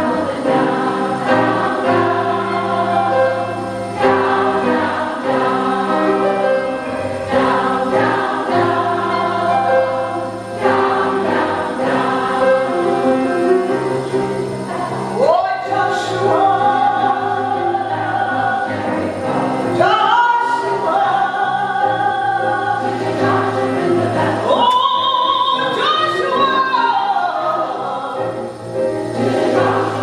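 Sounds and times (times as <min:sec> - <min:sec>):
piano accompaniment: 0:00.0 - 0:30.0
women's chorus singing: 0:00.0 - 0:30.0.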